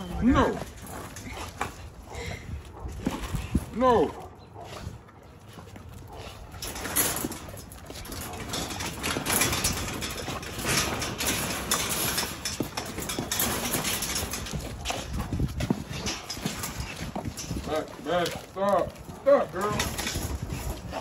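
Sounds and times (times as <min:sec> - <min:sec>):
puppy claws scuffling on concrete: 0:00.0 - 0:21.0.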